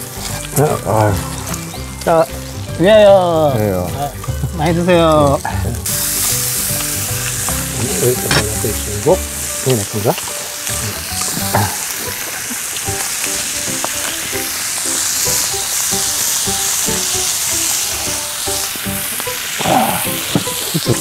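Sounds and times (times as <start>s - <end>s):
meat sizzling on a griddle: 0.0s - 21.0s.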